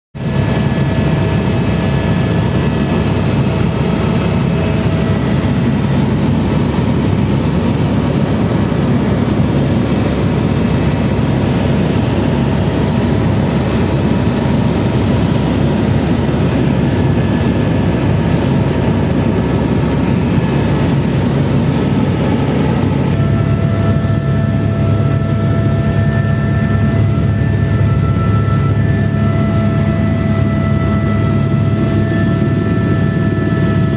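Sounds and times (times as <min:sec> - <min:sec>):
helicopter engine and rotor: 0:00.2 - 0:33.9
whining turbine: 0:00.2 - 0:33.9.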